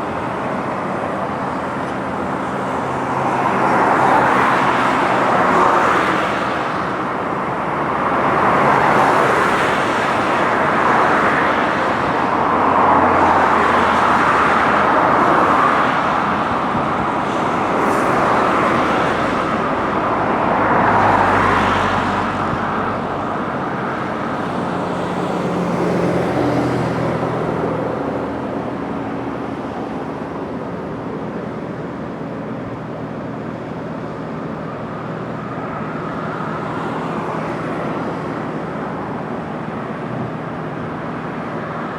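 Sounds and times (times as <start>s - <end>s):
cars passing by: 0.0s - 41.9s
vehicle engine hum: 0.0s - 41.9s.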